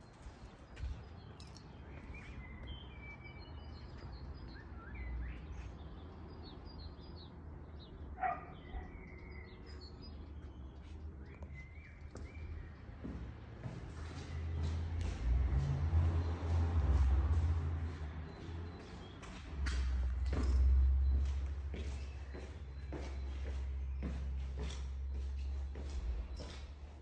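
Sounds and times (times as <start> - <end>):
small birds chirping: 0.0 - 15.3, 16.2 - 27.0.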